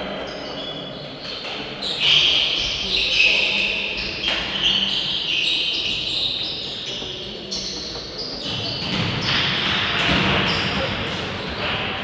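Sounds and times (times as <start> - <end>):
shoes squeaking on court floor: 0.0 - 11.7.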